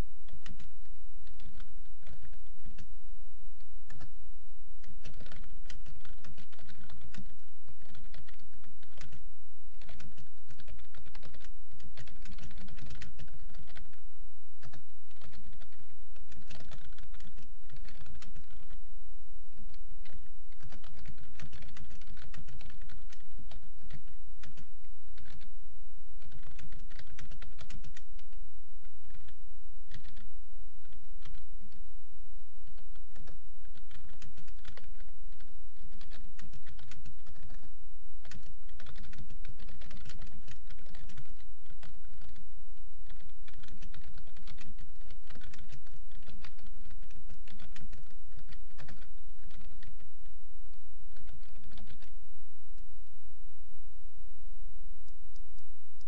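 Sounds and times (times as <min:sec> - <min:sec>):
low hum: 0:00.0 - 0:56.0
typing on computer keyboard: 0:00.3 - 0:02.9, 0:03.9 - 0:04.1, 0:04.8 - 0:14.0, 0:14.6 - 0:18.8, 0:19.6 - 0:25.5, 0:26.2 - 0:28.3, 0:29.0 - 0:31.8, 0:32.6 - 0:50.0, 0:51.1 - 0:52.1.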